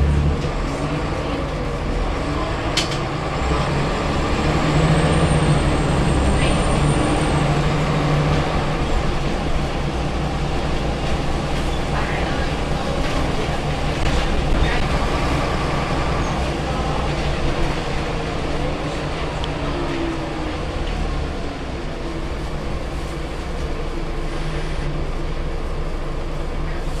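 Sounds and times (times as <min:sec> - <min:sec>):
bus diesel engine drone: 0:00.0 - 0:27.0
road noise: 0:00.0 - 0:27.0.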